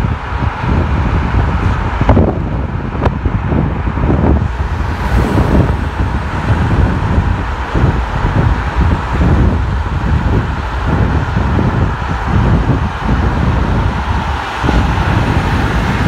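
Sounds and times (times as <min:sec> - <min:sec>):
car road and engine rumble: 0:00.0 - 0:16.0
wind buffeting microphone: 0:00.0 - 0:16.0.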